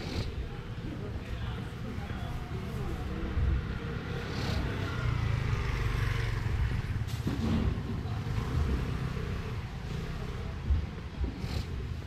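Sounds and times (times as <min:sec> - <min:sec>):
vehicle rumble on street: 0:00.0 - 0:12.0.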